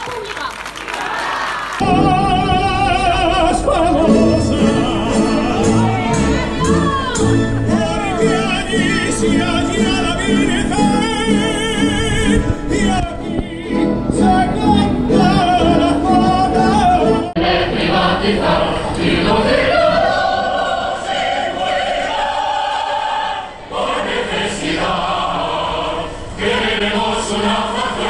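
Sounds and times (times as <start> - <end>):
orchestra and choir performing: 1.8 - 28.0.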